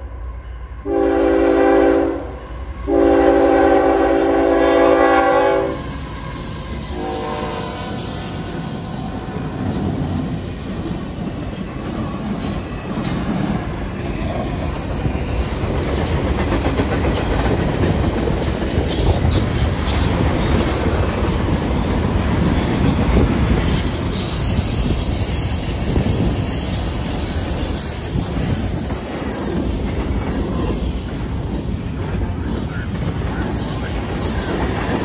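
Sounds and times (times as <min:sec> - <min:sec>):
freight train rumbling: 0:00.0 - 0:35.0
wheels clacking on rails: 0:03.8 - 0:35.0.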